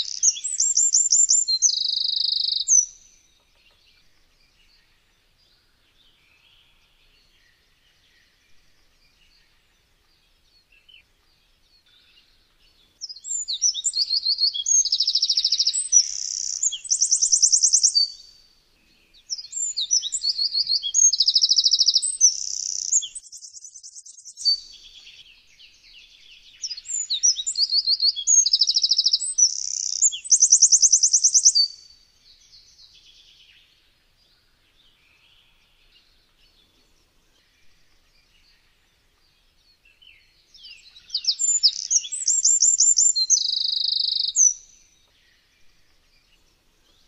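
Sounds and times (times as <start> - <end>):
wren singing: 0.0 - 18.5, 19.2 - 47.0.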